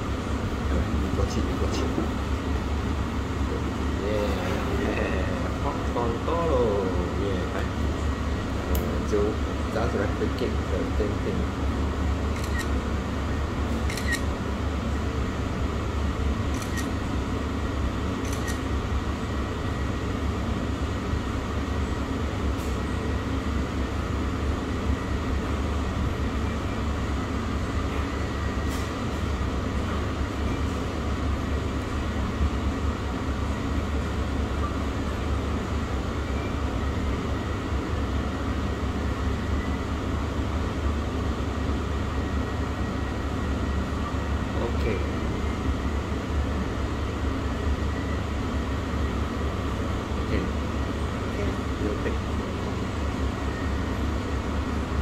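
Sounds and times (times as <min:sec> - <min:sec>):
low droning room noise: 0:00.0 - 0:55.0.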